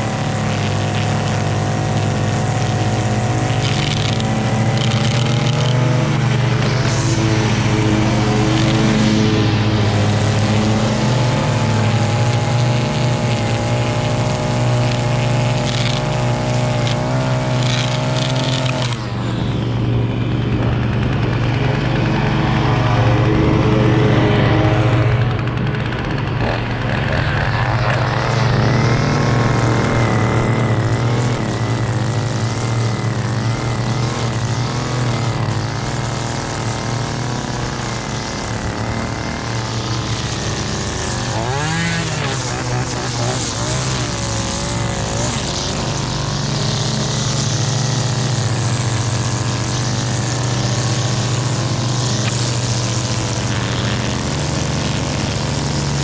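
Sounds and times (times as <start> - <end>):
string trimmer cutting grass: 0.0 - 56.0.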